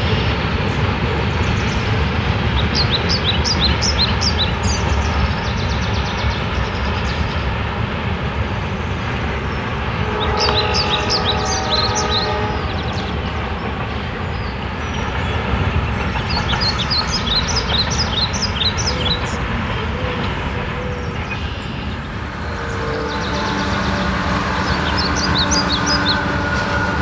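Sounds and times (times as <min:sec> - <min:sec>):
train cars rumbling: 0:00.0 - 0:27.0.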